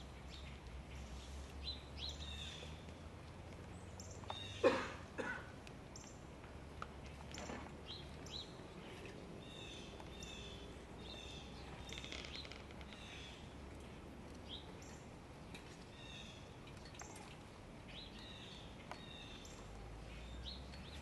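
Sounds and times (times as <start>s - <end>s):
birds chirping: 0.0s - 3.0s, 3.6s - 5.3s, 5.9s - 21.0s.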